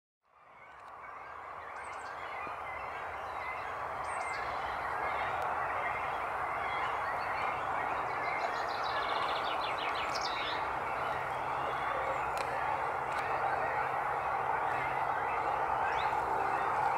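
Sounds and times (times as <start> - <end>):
waterside background noise: 0.3 - 16.9
bird chirps: 0.4 - 16.9.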